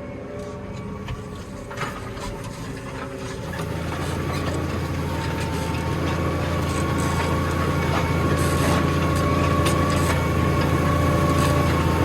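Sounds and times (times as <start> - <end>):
tractor diesel engine under load: 0.8 - 12.0.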